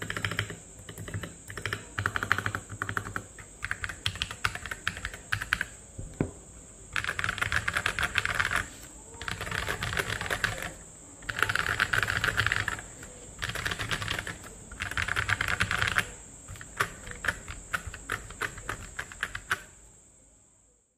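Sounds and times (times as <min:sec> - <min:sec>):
mechanical keyboard typing: 0:00.0 - 0:05.8, 0:06.9 - 0:19.7.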